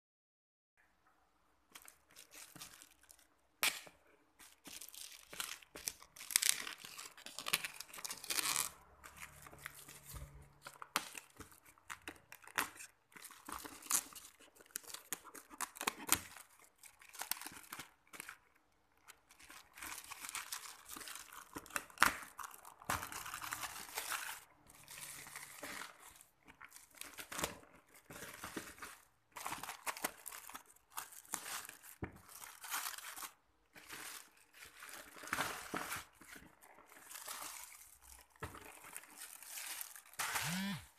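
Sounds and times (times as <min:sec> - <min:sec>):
plastic wrapping tearing and crinkling: 0:01.7 - 0:40.9.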